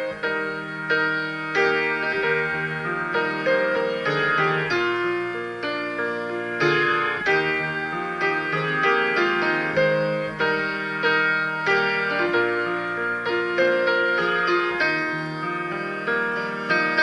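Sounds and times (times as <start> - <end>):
instrumental piano music: 0.0 - 17.0.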